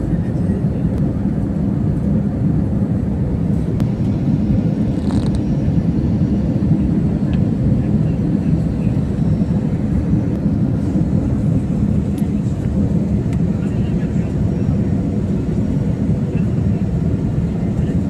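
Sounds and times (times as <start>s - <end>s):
airliner engines rumbling: 0.0s - 18.0s
rushing air in cabin: 0.0s - 18.0s.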